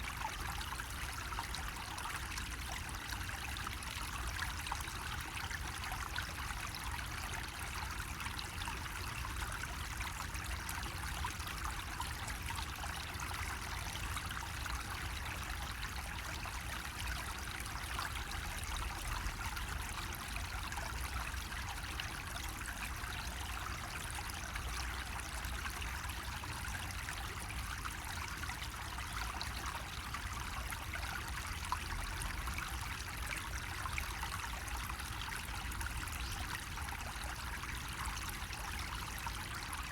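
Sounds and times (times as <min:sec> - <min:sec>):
water trickling from spout: 0:00.1 - 0:39.9.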